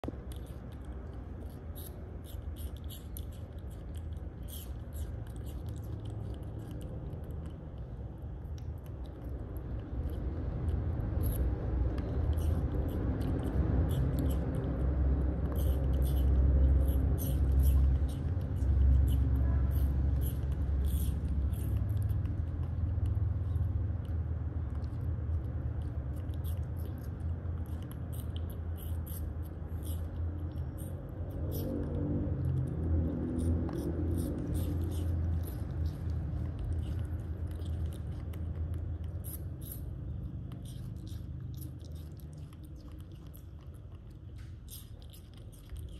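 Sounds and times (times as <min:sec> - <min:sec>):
low steady rumble: 0:00.0 - 0:45.9
monkey chewing hard food: 0:00.0 - 0:45.9.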